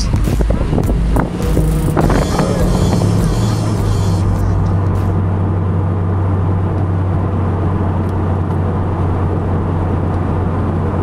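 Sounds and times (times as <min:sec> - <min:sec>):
car engine and exhaust cruising: 0:00.0 - 0:11.0
road and tyre noise: 0:00.0 - 0:11.0.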